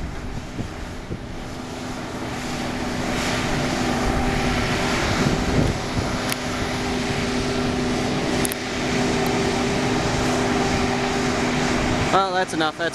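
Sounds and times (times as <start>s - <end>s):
excavator diesel engine running: 0.0s - 12.9s.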